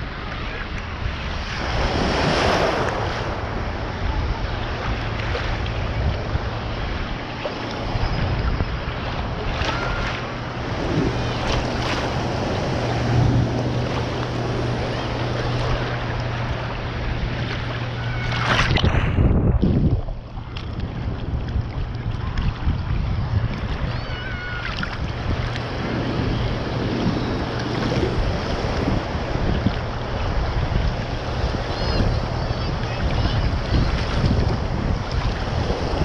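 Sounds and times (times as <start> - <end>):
shallow surf sloshing and splashing: 0.0 - 36.0
wind buffeting microphone: 0.0 - 36.0.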